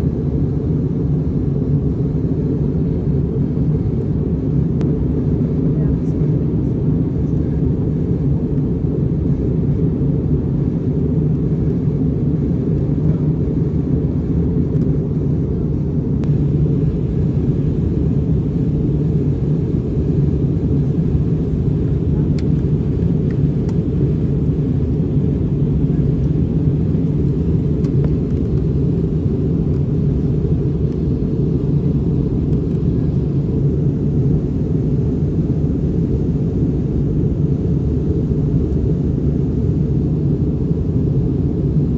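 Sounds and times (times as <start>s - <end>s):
jet airliner engine rumble: 0.0s - 41.9s.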